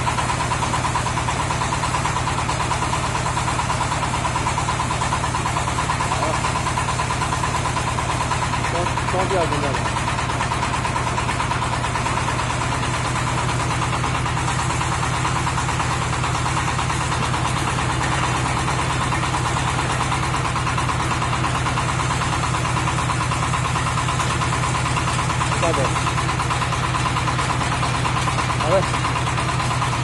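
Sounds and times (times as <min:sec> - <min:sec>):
drilling rig engine running: 0:00.0 - 0:30.0.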